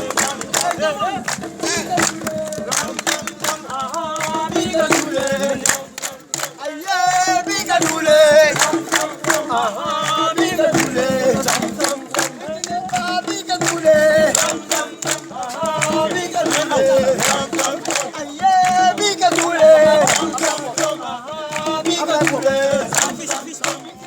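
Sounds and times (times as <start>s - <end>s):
fast percussive beat: 0.0s - 24.0s
group singing call and response: 0.0s - 24.0s.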